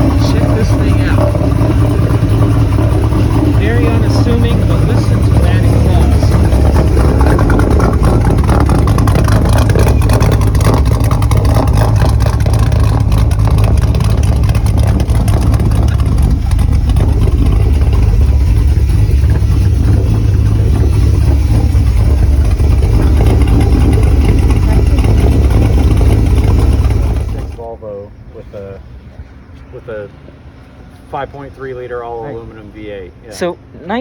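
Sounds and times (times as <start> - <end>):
engine with deep exhaust note: 0.0 - 34.0.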